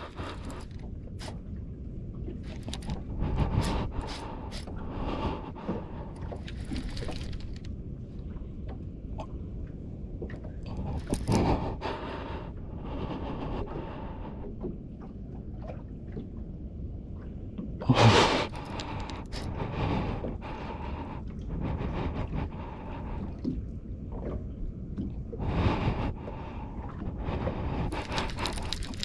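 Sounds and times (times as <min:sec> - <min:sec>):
wind rumble: 0:00.0 - 0:15.6, 0:16.4 - 0:29.0
water noise around boat: 0:00.0 - 0:29.0.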